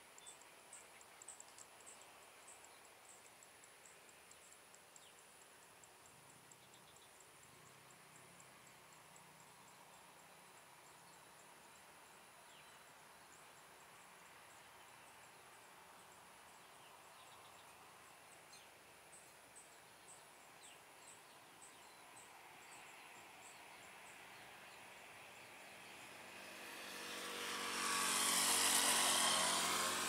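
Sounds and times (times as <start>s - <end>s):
insects trilling: 0.2s - 30.0s.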